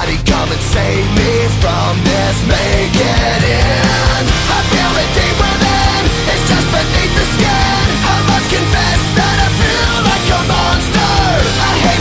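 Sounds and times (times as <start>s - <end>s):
hard rock music: 0.0s - 12.0s.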